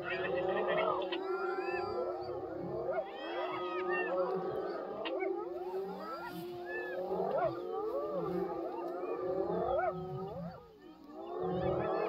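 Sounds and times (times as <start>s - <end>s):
hyenas whooping and squealing: 0.0s - 12.0s
low growling: 0.0s - 12.0s.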